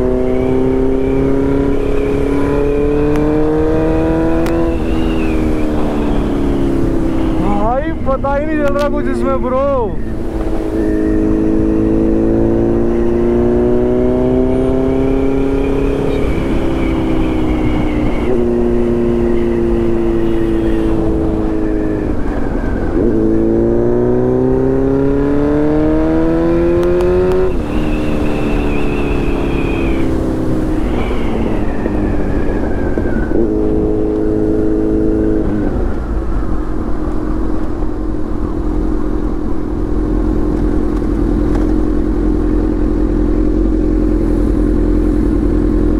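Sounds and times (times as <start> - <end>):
motorcycle engine accelerating: 0.0 - 45.9
wind rumble: 0.0 - 45.9.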